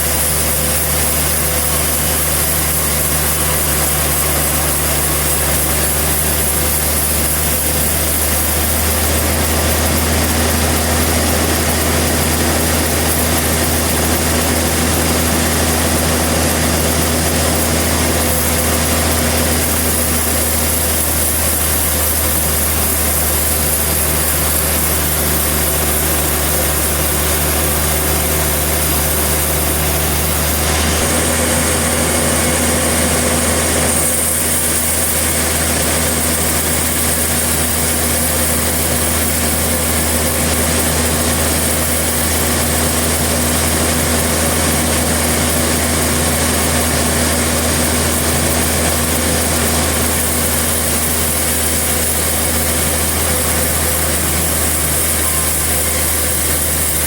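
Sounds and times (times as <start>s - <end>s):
engine drone: 0.0s - 57.0s
saw hissing: 0.0s - 57.0s.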